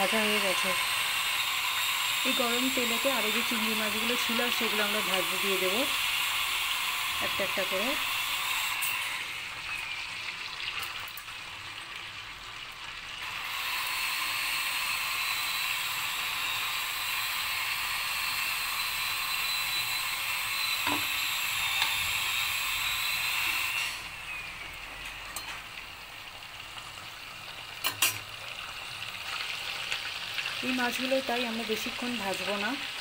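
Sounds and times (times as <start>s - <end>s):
prawns sizzling in hot oil: 0.0s - 33.0s.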